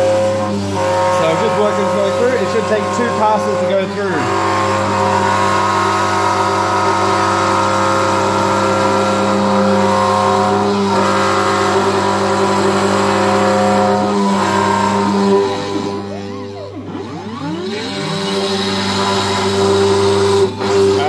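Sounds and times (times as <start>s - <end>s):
router spindle whining cutting wood: 0.0s - 21.0s.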